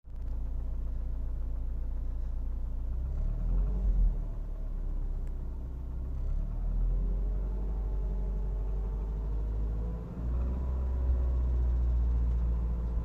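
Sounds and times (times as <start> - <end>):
car engine knocking and revving: 0.1 - 13.0.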